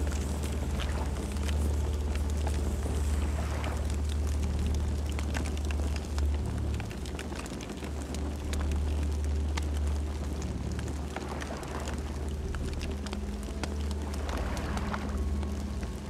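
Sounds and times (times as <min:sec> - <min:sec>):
burning wood crackling: 0:00.0 - 0:16.0
low rumble of flames: 0:00.0 - 0:16.0.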